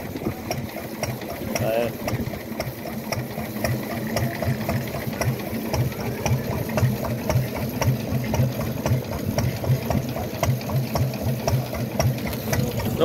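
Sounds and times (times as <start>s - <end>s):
stationary engine thumping: 0.0s - 13.0s.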